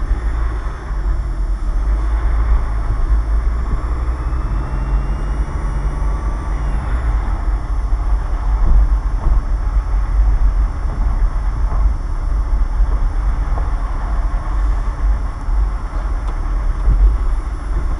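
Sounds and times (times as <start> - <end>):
car engine and tyre rumble: 0.0 - 17.9.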